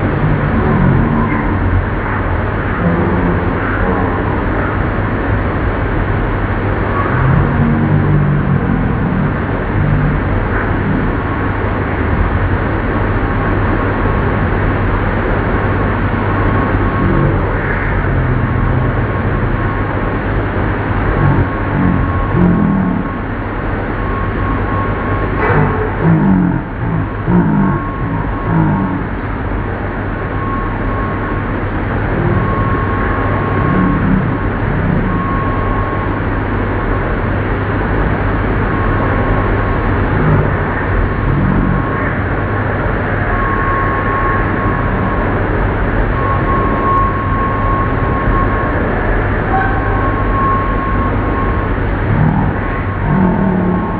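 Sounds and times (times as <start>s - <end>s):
faint high whine: 0.0s - 53.9s
lathe mechanical drone: 0.0s - 53.9s
low hum: 0.0s - 53.9s.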